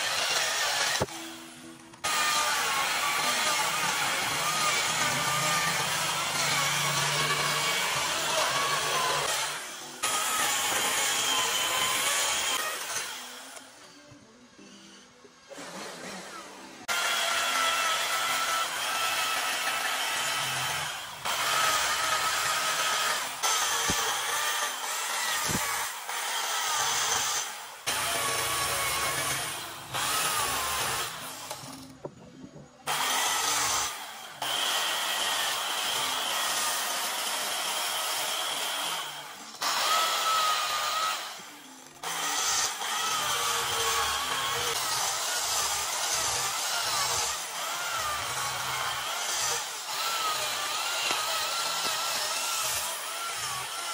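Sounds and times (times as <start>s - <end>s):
chainsaw cutting wood: 0.0s - 13.6s, 16.9s - 32.0s, 32.8s - 53.9s.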